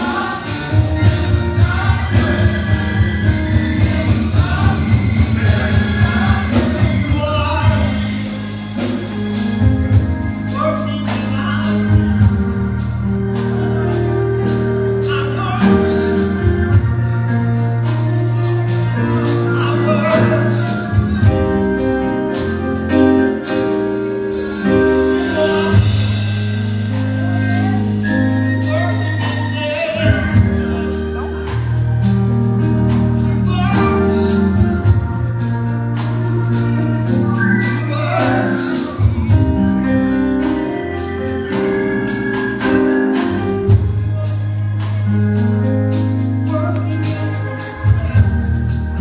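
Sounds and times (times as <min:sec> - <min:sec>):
gospel singing over held chords: 0:00.0 - 0:49.0.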